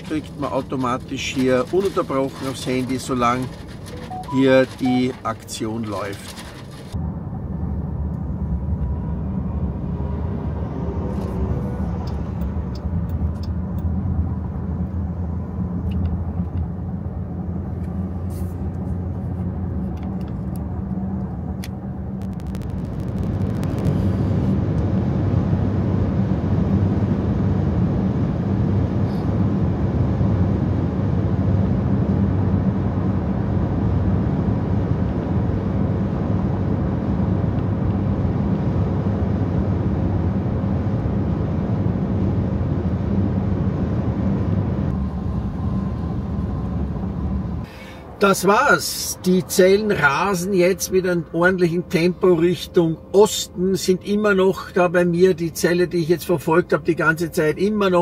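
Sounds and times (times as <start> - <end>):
car engine and tyre road noise: 0.0 - 58.0.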